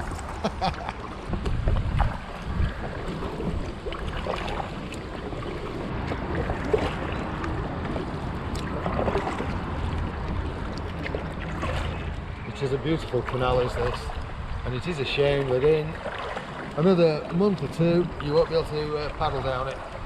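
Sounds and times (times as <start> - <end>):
paddle splashing in water: 0.0 - 20.0
wind buffeting microphone: 0.0 - 20.0.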